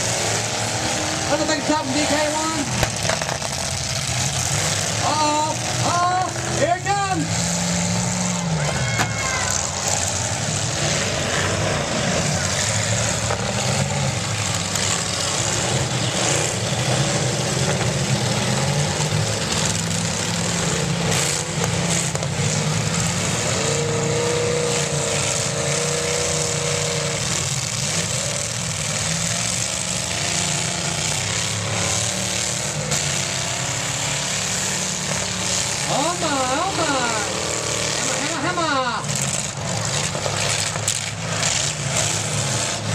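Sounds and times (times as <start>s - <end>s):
car engines droning: 0.0s - 42.9s
engine revving: 0.0s - 42.9s.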